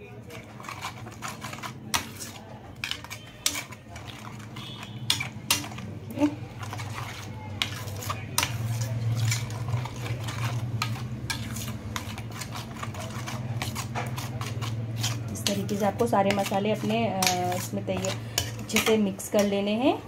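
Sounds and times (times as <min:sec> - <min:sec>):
spoon scraping metal plate: 0:00.0 - 0:19.7.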